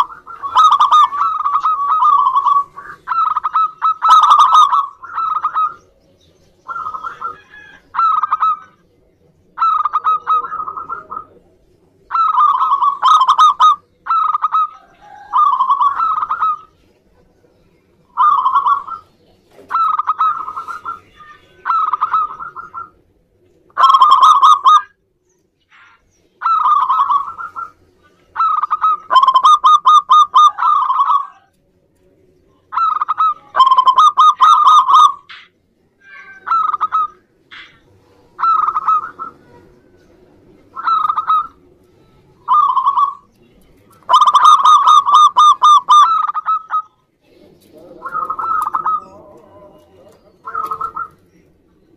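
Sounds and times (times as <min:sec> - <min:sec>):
dove cooing: 0:00.0 - 0:23.1, 0:23.7 - 0:25.0, 0:26.4 - 0:31.6, 0:32.5 - 0:35.6, 0:36.2 - 0:51.9.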